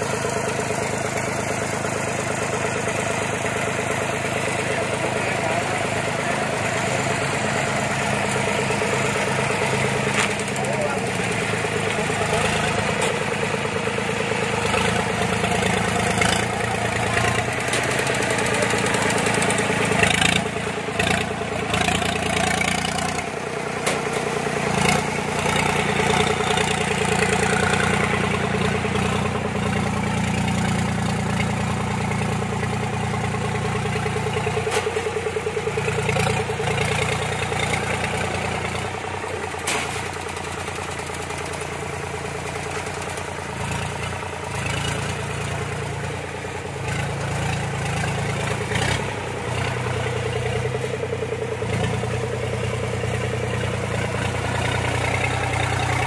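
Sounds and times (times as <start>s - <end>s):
tracked machine engine running: 0.0s - 56.0s.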